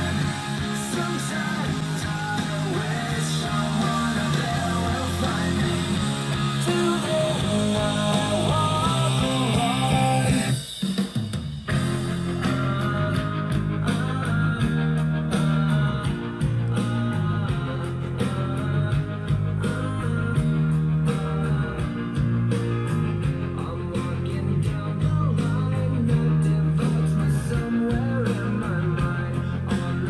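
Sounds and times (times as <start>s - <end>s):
rock song with guitar and drums: 0.0s - 30.0s.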